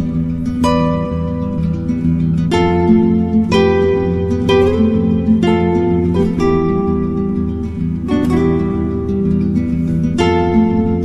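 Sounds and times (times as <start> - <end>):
low sustained tone: 0.0 - 11.0
plucked string notes: 0.0 - 11.0.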